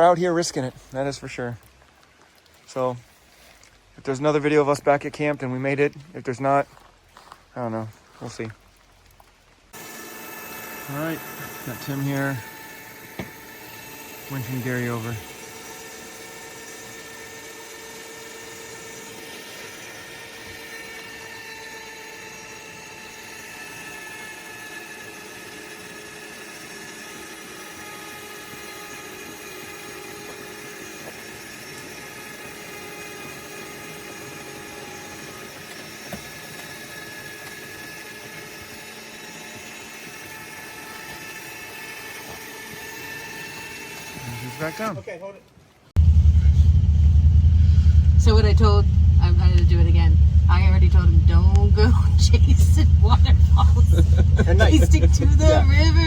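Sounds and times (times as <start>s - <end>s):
electric winch whining: 9.7s - 45.1s, 46.0s - 56.0s.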